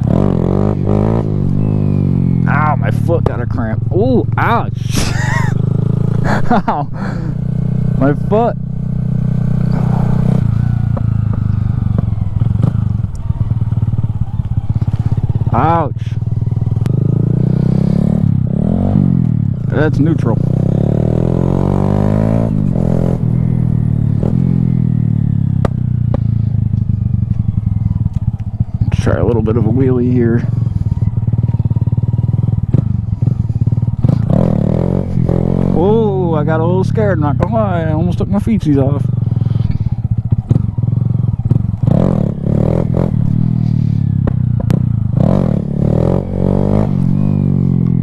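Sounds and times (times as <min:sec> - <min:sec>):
motorcycle engine slowing: 0:00.0 - 0:48.0.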